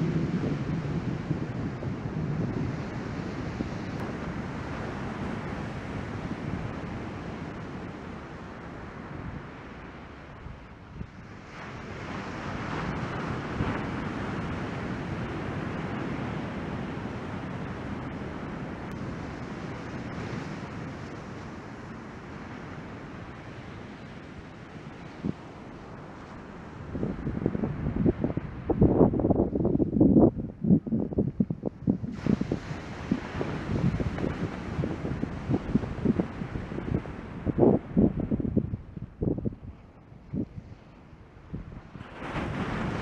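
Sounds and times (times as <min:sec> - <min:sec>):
surf breaking on beach: 0:00.0 - 0:10.3, 0:11.2 - 0:29.2, 0:31.9 - 0:39.3, 0:40.3 - 0:43.0
wind buffeting microphone: 0:00.0 - 0:43.0.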